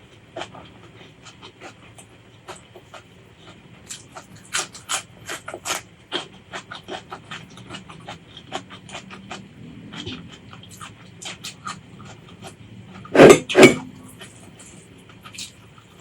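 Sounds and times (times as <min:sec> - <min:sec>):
crunchy food being chewed: 0:00.0 - 0:16.0.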